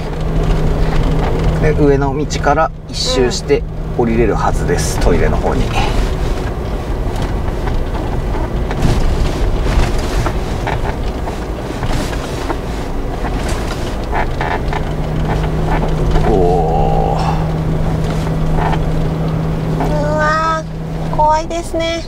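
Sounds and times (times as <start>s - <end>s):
vehicle knocks and rattles: 0.0s - 2.9s, 3.6s - 16.5s, 17.5s - 22.0s
engine and road rumble: 0.0s - 22.0s.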